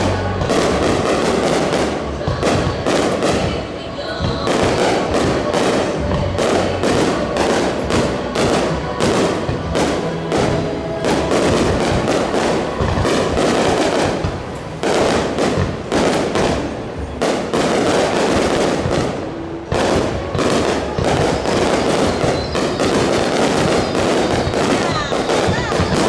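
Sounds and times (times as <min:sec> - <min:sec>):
fireworks bursts and crackles: 0:00.0 - 0:26.0.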